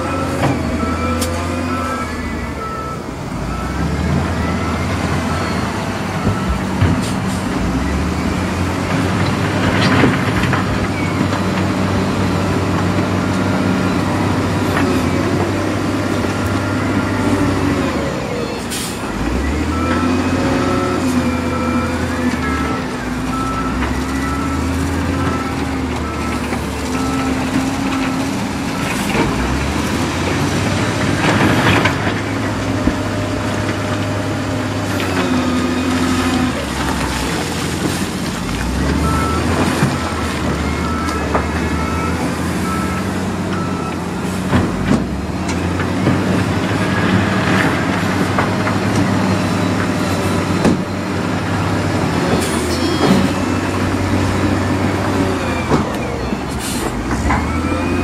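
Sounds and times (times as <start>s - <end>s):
diesel engines revving: 0.0s - 58.0s.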